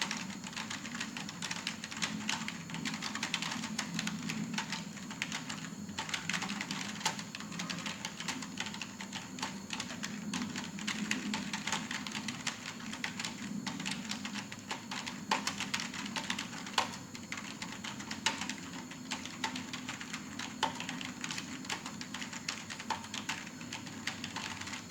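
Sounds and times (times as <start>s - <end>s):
fast typing on keyboard: 0.0s - 24.9s.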